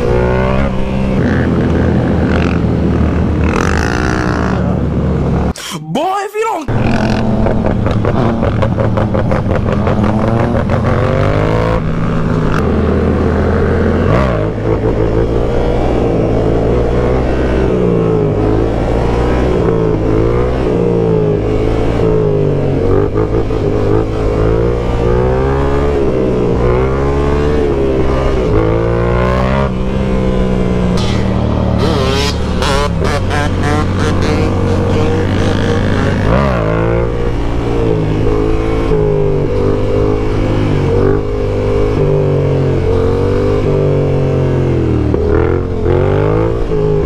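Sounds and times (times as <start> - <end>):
motorcycle engine revving: 0.0 - 5.3, 6.7 - 47.0.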